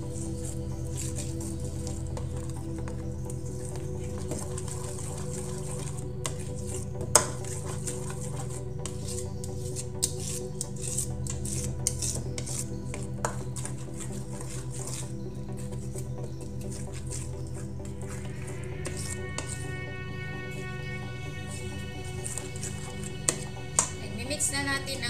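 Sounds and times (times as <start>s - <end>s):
batter stirred in metal bowl: 0.0s - 25.0s.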